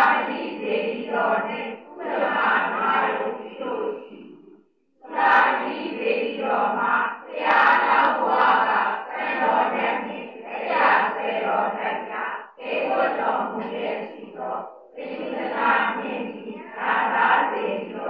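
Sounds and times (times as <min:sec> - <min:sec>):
voices chanting in unison: 0:00.0 - 0:18.0.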